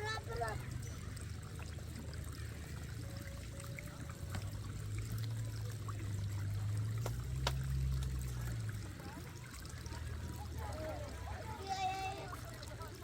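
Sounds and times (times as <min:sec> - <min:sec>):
water trickling and flowing: 0:00.0 - 0:13.0.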